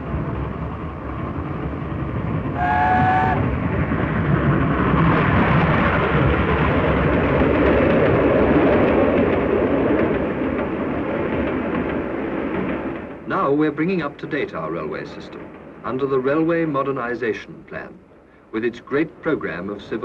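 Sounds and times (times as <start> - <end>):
steam train passing rumble: 0.0 - 20.0.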